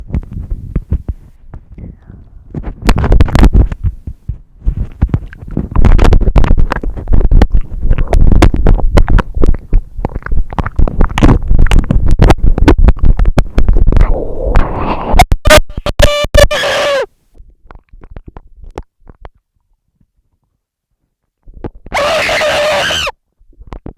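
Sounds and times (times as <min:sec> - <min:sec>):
microphone being chewed: 0:00.0 - 0:16.0, 0:17.4 - 0:23.9.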